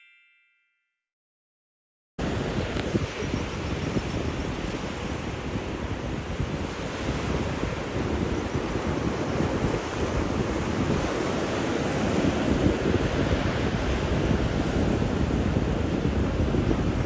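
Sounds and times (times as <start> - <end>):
ocean surf washing ashore: 2.2 - 17.0
wind buffeting microphone: 2.2 - 17.0.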